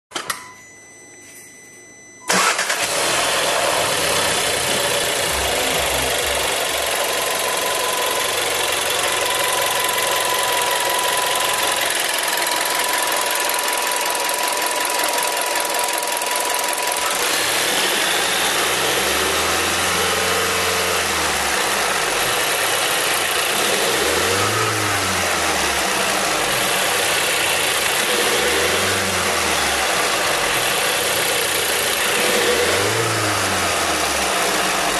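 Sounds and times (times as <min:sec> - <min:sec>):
car engine starting and running: 0:02.2 - 0:34.9.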